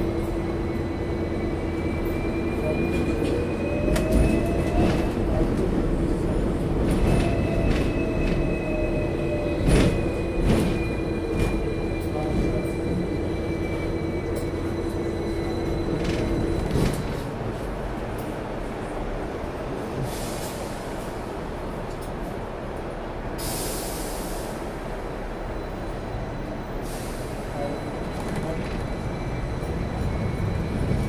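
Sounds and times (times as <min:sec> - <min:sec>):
tram hum: 0:00.0 - 0:31.0.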